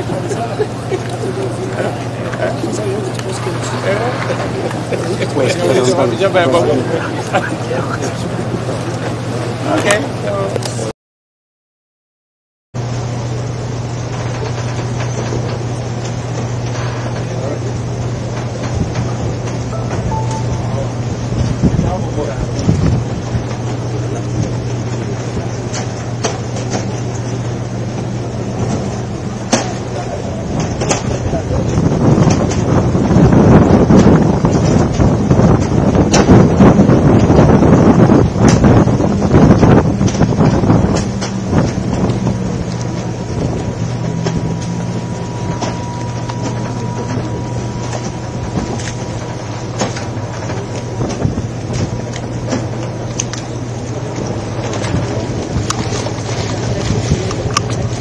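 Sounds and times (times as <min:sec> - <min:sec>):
ferry engines humming: 0:00.0 - 0:10.9, 0:12.8 - 0:58.0
rush of wind and water: 0:00.0 - 0:10.9, 0:12.8 - 0:58.0.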